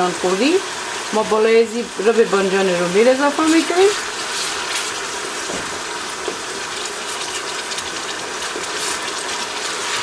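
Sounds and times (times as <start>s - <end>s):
onions sizzling and bubbling: 0.0s - 10.0s.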